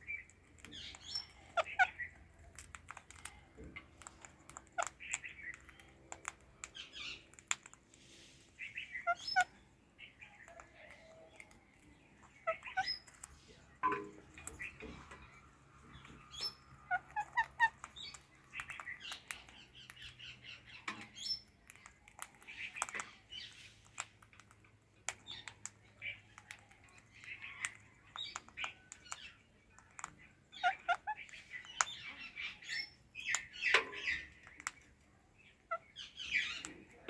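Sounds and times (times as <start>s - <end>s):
parakeets chirping and chattering: 0.0s - 37.0s.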